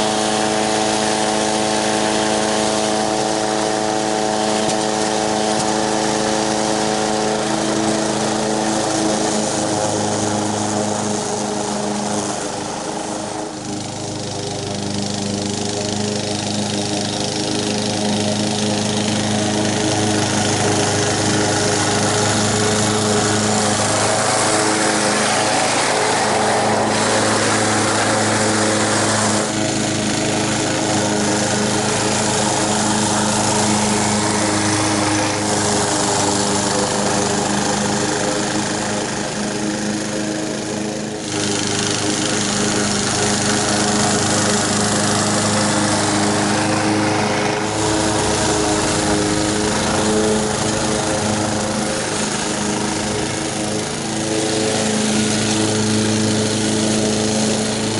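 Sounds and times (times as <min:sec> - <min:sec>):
lawn mower engine cutting grass: 0:00.0 - 0:57.9.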